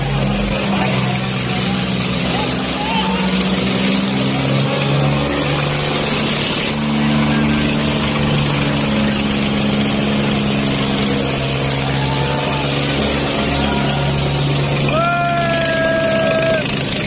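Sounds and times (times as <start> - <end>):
diesel tractor engine idling: 0.0 - 17.0.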